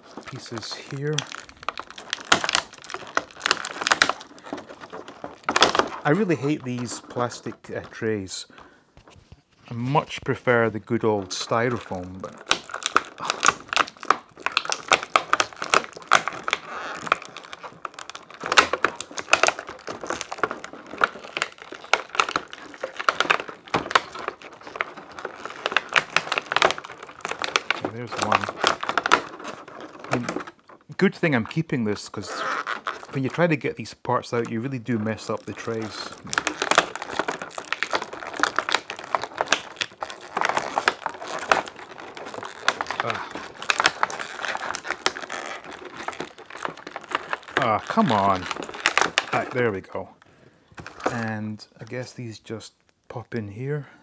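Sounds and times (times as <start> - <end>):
parts popping out of plastic: 0.0 - 9.4, 11.2 - 31.0, 32.2 - 33.4, 34.4 - 49.7, 50.7 - 51.3
plastic blister tray crinkling: 0.0 - 52.1.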